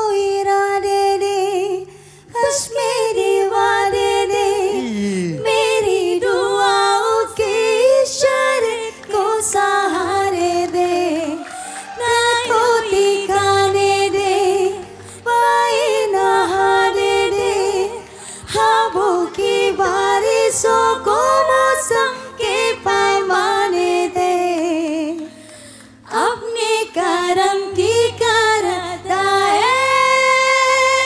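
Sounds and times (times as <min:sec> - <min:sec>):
soft musical accompaniment: 0:00.0 - 0:31.0
two women singing a duet: 0:00.0 - 0:31.0.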